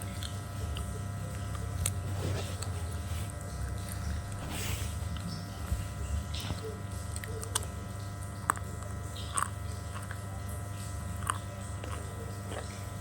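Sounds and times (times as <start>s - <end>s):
person chewing crunchy slate: 0.0s - 13.0s.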